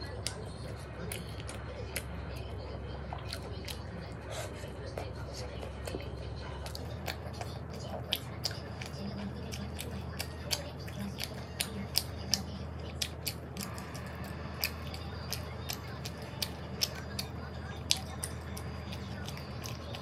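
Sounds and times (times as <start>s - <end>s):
wet chewing clicks: 0.0s - 20.0s.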